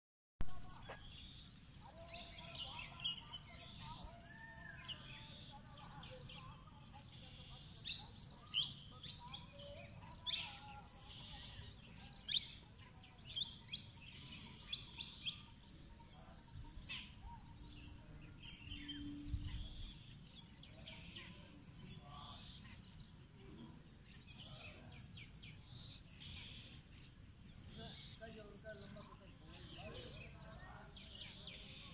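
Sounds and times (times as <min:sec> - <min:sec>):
small birds chirping: 0:00.4 - 0:31.9
steady outdoor hiss: 0:00.5 - 0:31.9.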